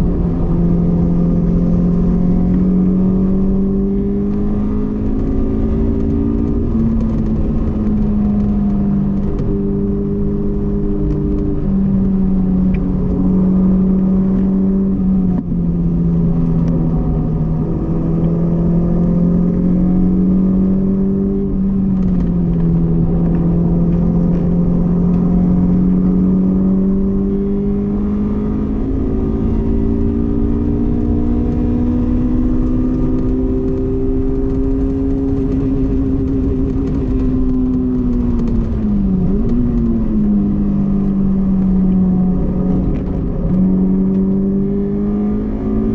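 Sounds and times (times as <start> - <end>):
car engine revving high: 0.0 - 45.9.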